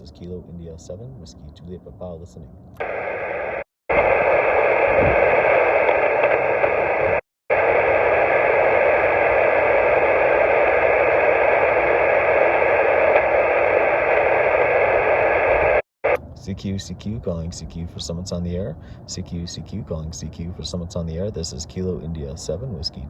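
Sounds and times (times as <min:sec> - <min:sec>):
radio receiver hiss: 0:02.8 - 0:23.0.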